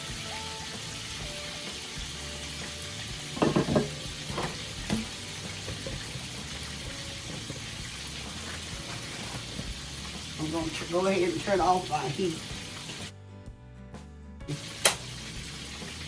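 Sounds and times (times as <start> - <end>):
chicken sizzling in oil: 0.0 - 13.1, 14.5 - 16.0.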